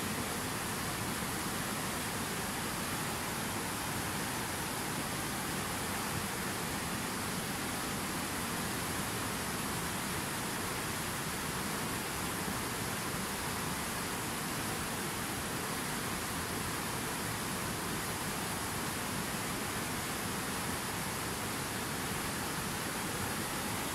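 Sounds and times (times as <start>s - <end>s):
river rushing over rocks: 0.0s - 23.9s.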